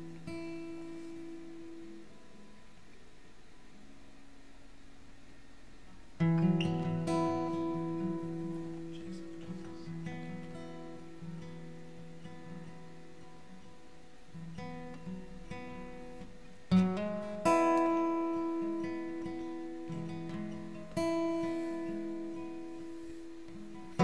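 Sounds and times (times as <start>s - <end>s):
strummed guitar chords: 0.0s - 2.8s, 6.2s - 24.0s
acoustic guitar played softly: 0.0s - 24.0s.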